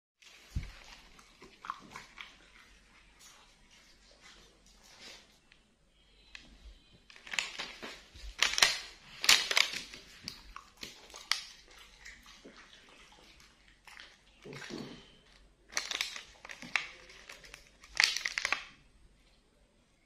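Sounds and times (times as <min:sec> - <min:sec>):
dog chewing crunchy food: 0:00.2 - 0:05.2, 0:07.2 - 0:18.6.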